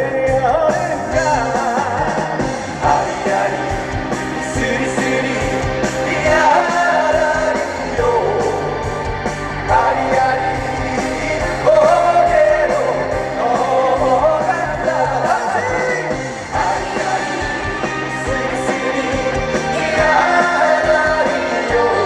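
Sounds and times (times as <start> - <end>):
person singing: 0.0 - 8.9, 9.7 - 22.0
live band playing trot music: 0.0 - 22.0.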